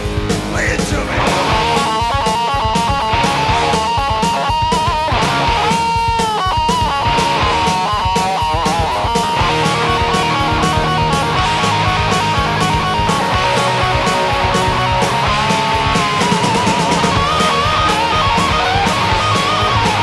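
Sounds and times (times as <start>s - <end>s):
drums and bass: 0.0s - 20.0s
electric guitar lead: 0.0s - 20.0s.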